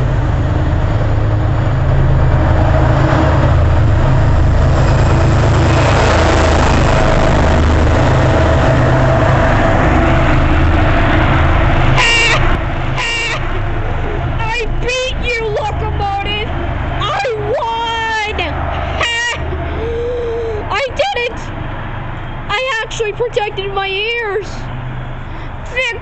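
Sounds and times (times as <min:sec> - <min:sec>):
diesel locomotive rumbling: 0:00.0 - 0:26.0.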